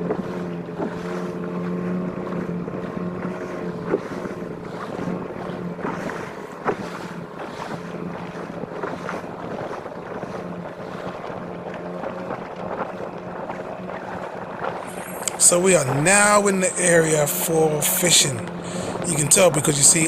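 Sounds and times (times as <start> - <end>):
outboard motor running: 0.0 - 20.0
water rushing past: 0.0 - 20.0
wind on microphone: 0.0 - 20.0.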